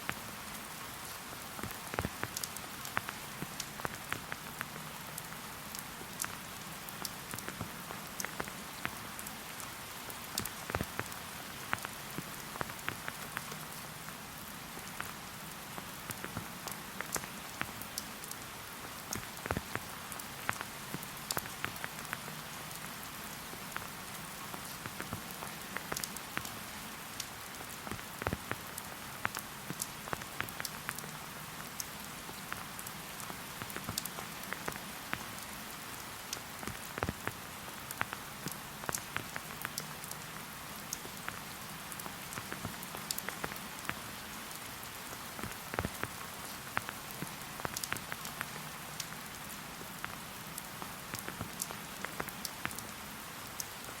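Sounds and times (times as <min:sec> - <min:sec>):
raindrops ticking on surfaces: 0:00.0 - 0:54.0
soft hiss of rainfall: 0:00.0 - 0:54.0.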